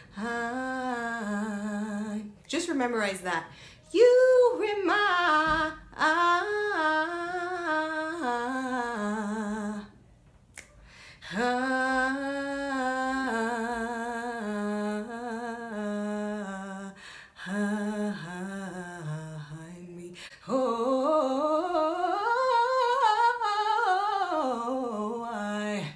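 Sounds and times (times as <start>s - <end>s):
woman singing vocal riff: 0.0s - 10.0s, 10.6s - 25.9s.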